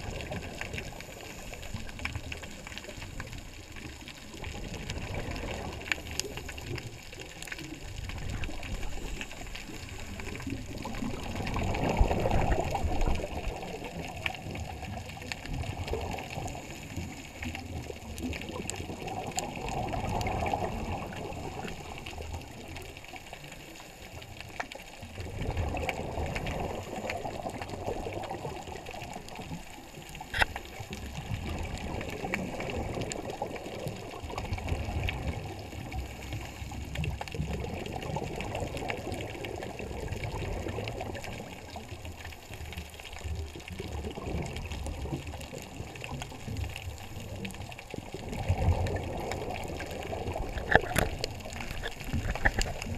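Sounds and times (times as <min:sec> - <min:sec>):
exhaled bubbles gurgling: 0:00.0 - 0:52.9
low underwater wash: 0:00.0 - 0:52.9.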